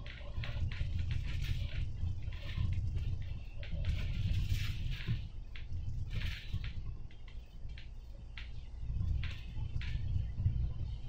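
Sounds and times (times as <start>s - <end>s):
bus engine and road rumble: 0.0s - 11.0s
rattles and clicks from bus body: 0.0s - 11.0s.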